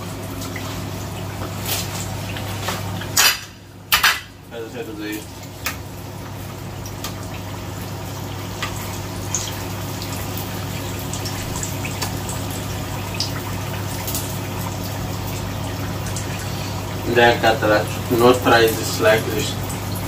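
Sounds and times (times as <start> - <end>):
constant low hum: 0.0 - 20.0
deep-frying sizzle in oil: 0.0 - 20.0.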